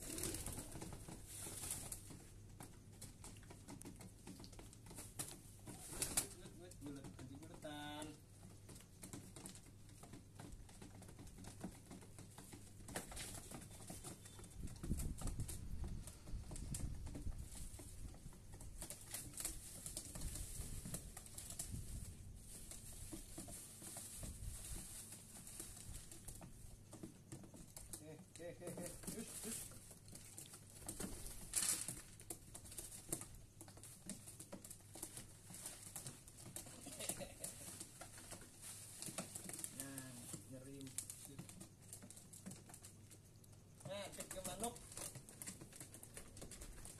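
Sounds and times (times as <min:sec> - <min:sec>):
rustle: 0:00.0 - 0:02.5, 0:04.2 - 0:08.1, 0:12.3 - 0:26.9, 0:27.5 - 0:46.9
scratching and tapping on wood: 0:00.0 - 0:46.9.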